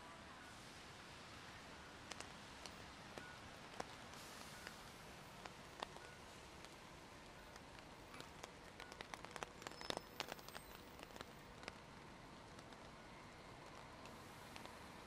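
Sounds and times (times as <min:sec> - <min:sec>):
faint steady rain: 0:00.0 - 0:15.0
raindrop ticks: 0:01.8 - 0:15.0.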